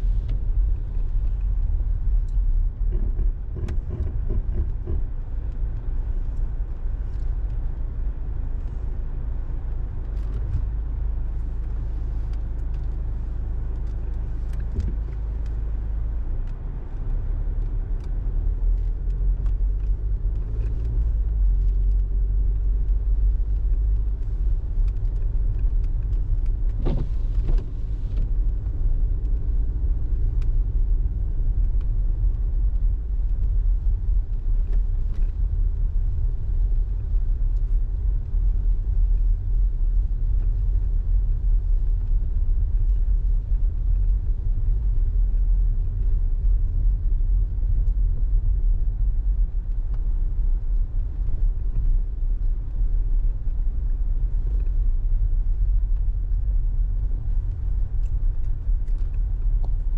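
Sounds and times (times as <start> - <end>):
tyres and engine rumble: 0.0 - 59.9.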